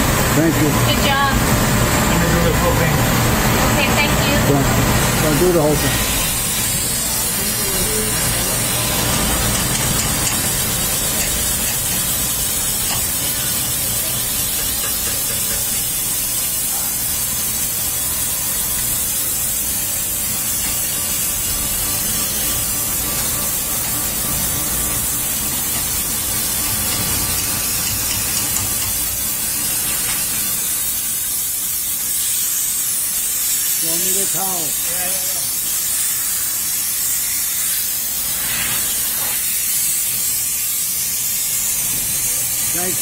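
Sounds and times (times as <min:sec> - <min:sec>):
steam cleaner hissing: 0:00.0 - 0:43.0.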